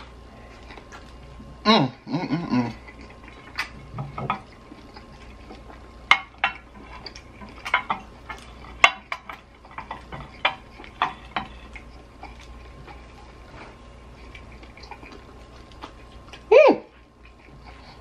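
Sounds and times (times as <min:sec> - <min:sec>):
wet chewing mouth sounds: 0:00.0 - 0:18.0.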